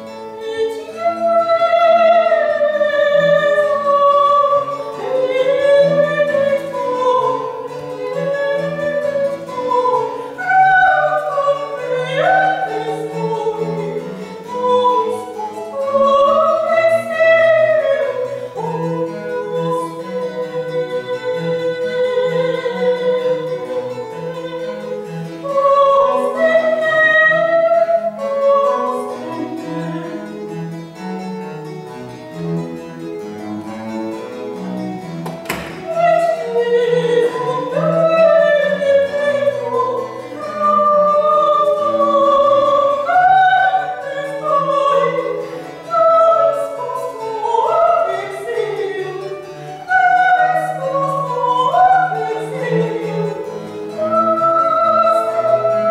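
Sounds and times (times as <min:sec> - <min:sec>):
soprano singing with vibrato: 0:00.0 - 0:30.4, 0:35.5 - 0:55.9
cello and harpsichord: 0:00.0 - 0:55.9.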